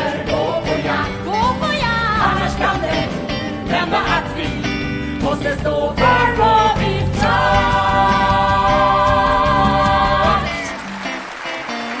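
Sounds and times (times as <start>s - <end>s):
people singing: 0.0s - 10.9s.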